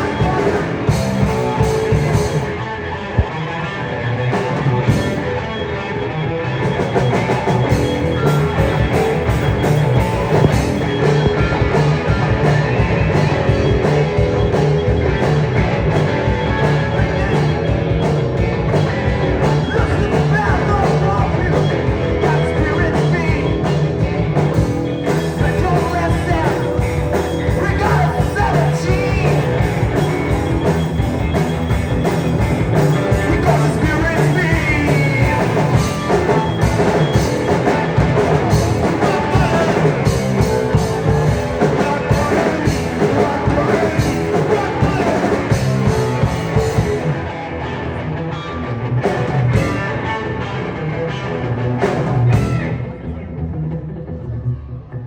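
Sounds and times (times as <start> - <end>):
drums: 0.0 - 54.2
electric guitar: 0.0 - 55.0.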